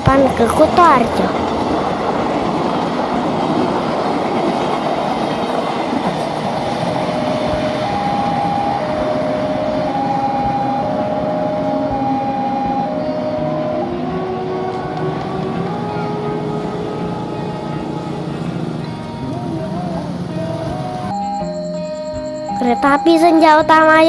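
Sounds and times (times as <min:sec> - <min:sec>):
train wheels rumbling on rails: 0:00.0 - 0:21.1
two-tone warning signal: 0:00.0 - 0:24.0.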